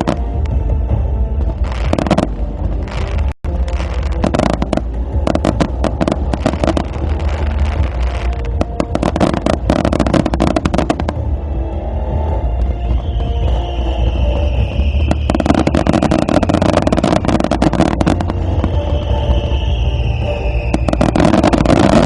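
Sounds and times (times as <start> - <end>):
deep rumble: 0.0 - 22.0
fireworks bursts and crackles: 0.0 - 22.0.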